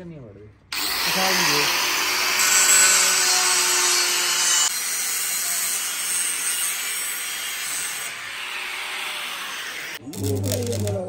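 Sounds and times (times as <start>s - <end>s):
angle grinder grinding steel: 0.8s - 10.8s.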